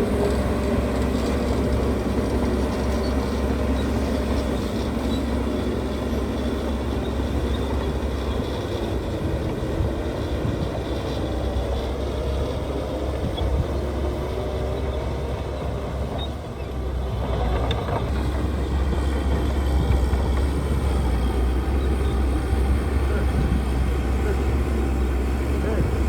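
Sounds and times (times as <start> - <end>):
diesel construction machinery running: 0.0 - 26.0.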